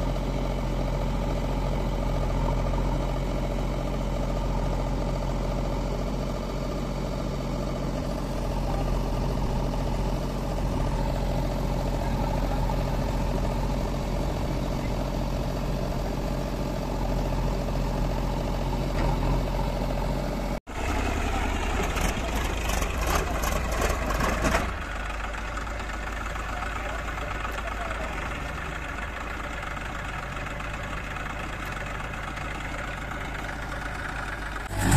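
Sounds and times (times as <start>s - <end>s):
diesel engines running: 0.0s - 34.9s
tractor engine running: 0.0s - 34.9s.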